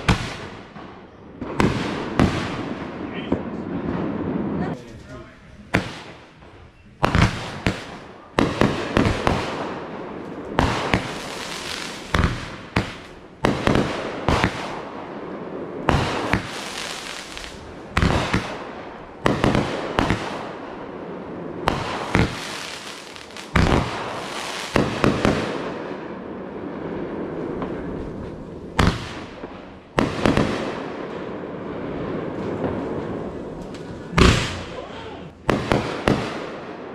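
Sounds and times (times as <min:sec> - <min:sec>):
fireworks bangs with crackling: 0:00.0 - 0:36.9.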